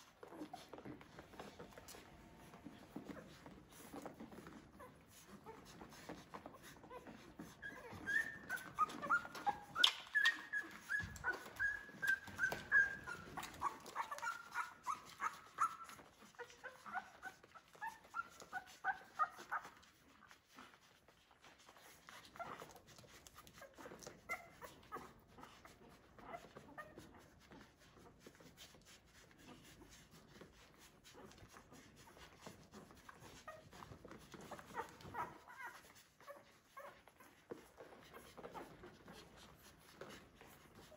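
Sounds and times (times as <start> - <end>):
puppies squeaking and whimpering: 0.0 - 40.9.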